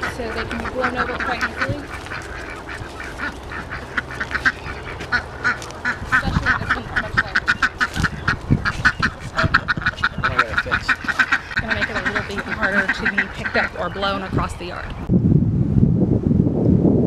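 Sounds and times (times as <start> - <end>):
ducks quacking: 0.0 - 15.1.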